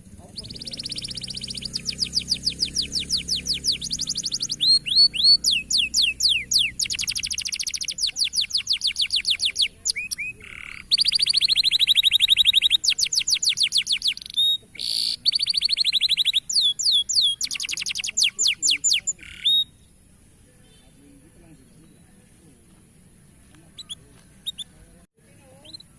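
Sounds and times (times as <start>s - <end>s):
canary singing fast trills: 0.0s - 21.0s, 23.1s - 25.0s, 25.6s - 25.9s.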